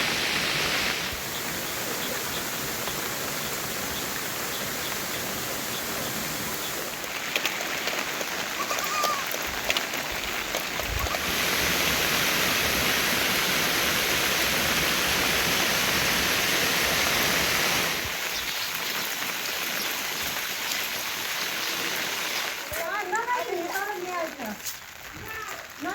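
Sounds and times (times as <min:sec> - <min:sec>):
heavy rain hiss: 0:00.0 - 0:25.9
running water: 0:00.0 - 0:25.9.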